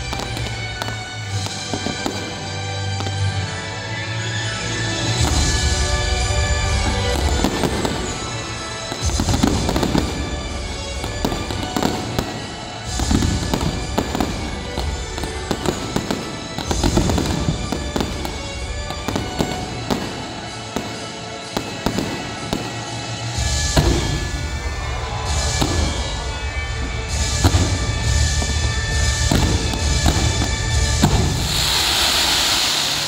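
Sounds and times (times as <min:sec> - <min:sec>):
fireworks bangs and crackling: 0:00.0 - 0:33.0
music: 0:00.0 - 0:33.0.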